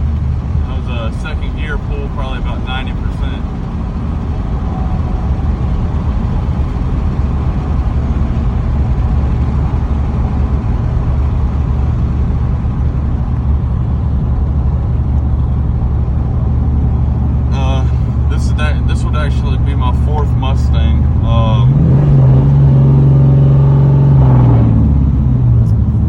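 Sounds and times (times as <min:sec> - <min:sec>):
car engine droning: 0:00.0 - 0:26.0.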